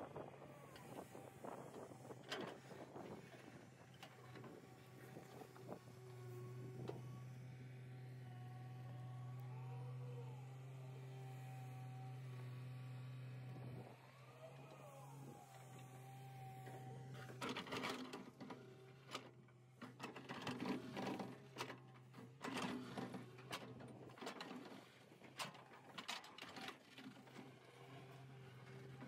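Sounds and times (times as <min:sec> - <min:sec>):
excavator engine hum: 0:00.0 - 0:29.0.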